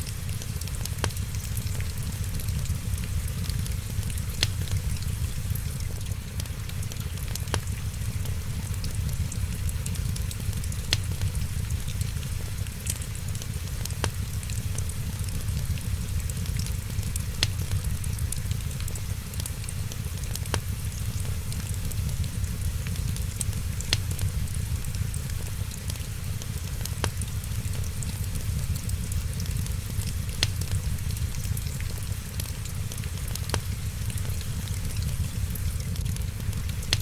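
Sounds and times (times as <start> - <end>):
low rumble and soft hiss: 0.0 - 37.0
wood fire crackling and popping: 0.0 - 37.0.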